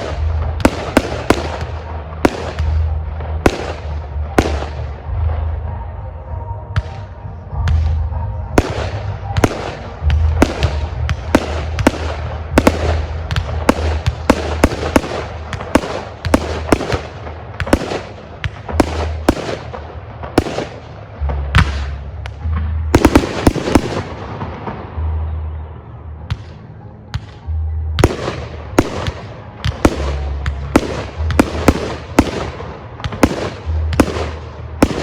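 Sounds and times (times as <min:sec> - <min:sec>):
fireworks bursts and cracks: 0:00.0 - 0:05.4, 0:08.6 - 0:24.8, 0:28.0 - 0:35.0.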